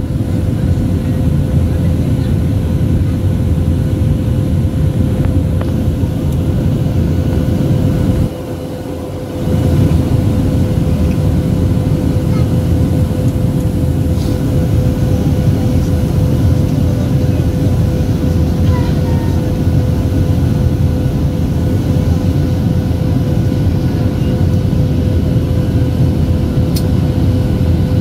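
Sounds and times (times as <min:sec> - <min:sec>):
airplane cabin engine rumble: 0:00.0 - 0:28.0
constant hum: 0:00.0 - 0:28.0.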